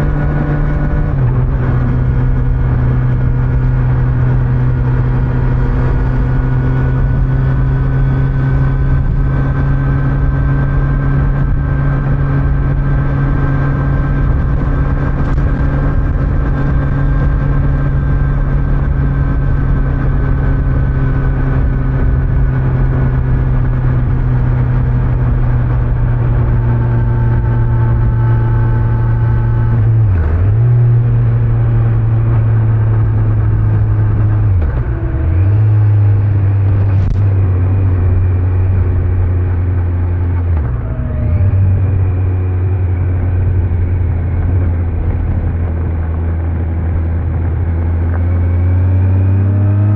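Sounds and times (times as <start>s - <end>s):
motorcycle engine cruising: 0.0s - 49.9s.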